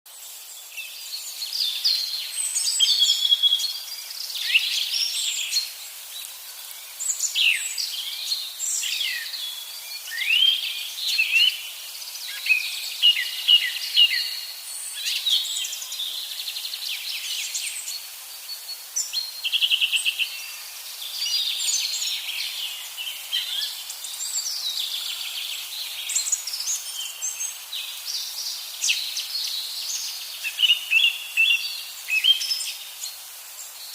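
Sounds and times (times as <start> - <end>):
faint hiss: 0.1 - 33.9
songbirds chirping and trilling: 0.1 - 33.9.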